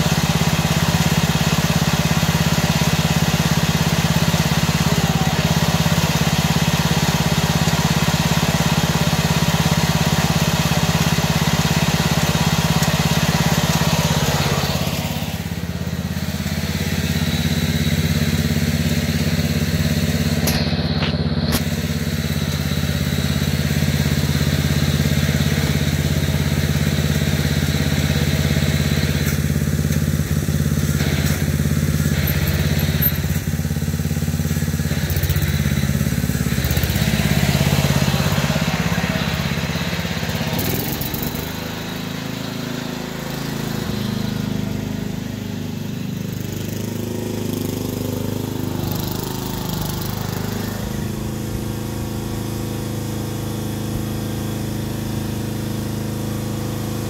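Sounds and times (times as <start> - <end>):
riding lawn mower engine droning: 0.0 - 57.0.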